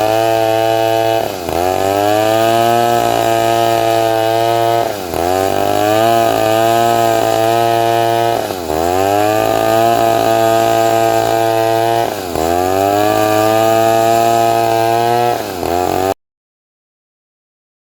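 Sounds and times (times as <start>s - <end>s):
chainsaw cutting log: 0.0s - 16.2s.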